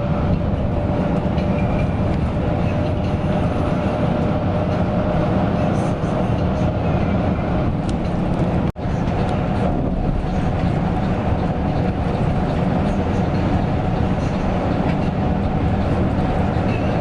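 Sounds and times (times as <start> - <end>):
coach engine drone: 0.0 - 17.0
road noise: 0.0 - 17.0.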